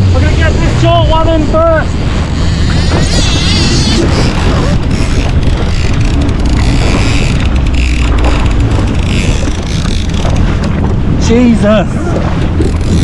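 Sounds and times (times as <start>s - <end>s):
jet ski engine running: 0.0s - 13.0s
water rushing past hull: 0.0s - 13.0s
wind buffeting microphone: 0.0s - 13.0s.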